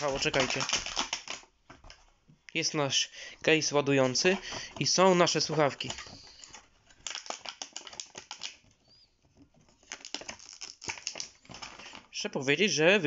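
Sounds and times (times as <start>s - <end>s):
plastic tray crackling: 0.0s - 2.1s, 3.5s - 12.2s.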